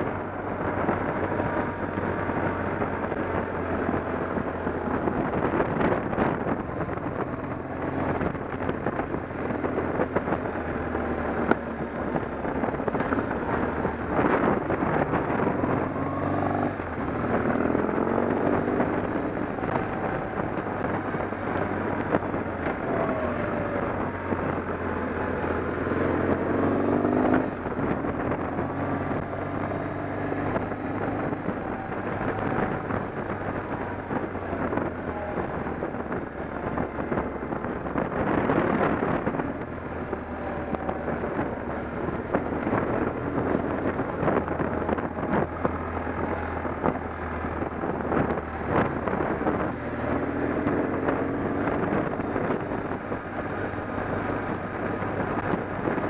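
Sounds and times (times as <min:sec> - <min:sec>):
engine running: 0:00.0 - 0:56.0
wind noise on microphone: 0:00.0 - 0:56.0.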